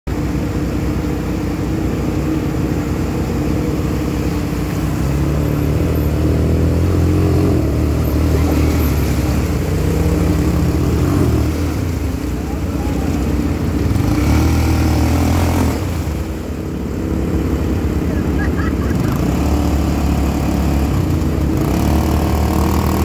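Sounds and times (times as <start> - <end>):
quad bike engines running: 0.1 - 23.0.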